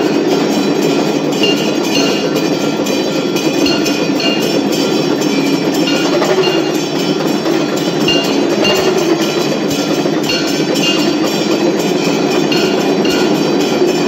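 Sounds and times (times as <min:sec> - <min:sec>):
loud clattering din: 0:00.0 - 0:14.0
temple bells clanging: 0:00.0 - 0:14.0.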